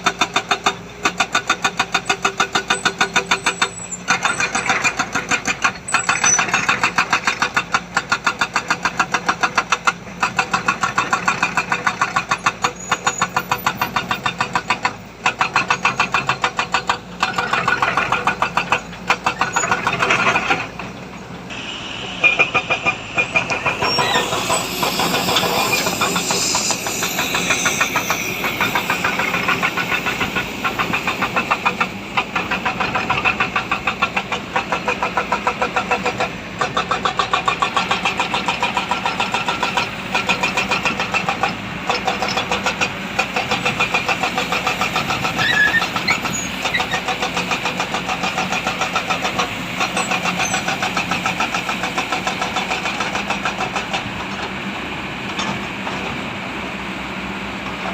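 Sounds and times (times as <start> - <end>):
heavy diesel engine under load: 0.0 - 57.9.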